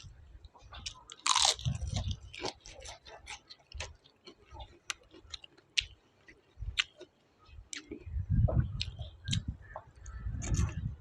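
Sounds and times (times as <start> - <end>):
person chewing: 0.0 - 10.9.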